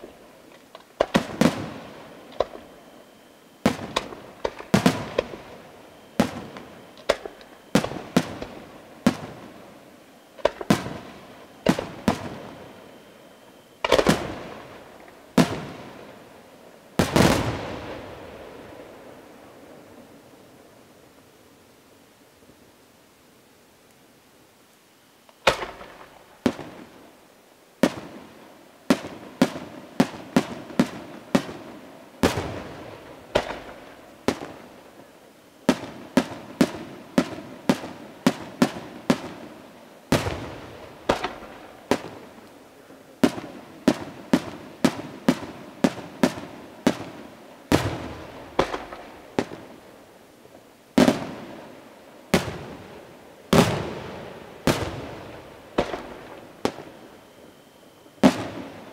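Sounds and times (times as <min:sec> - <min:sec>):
fireworks bursting: 0:00.0 - 0:20.8, 0:25.3 - 0:27.2, 0:27.8 - 0:58.9.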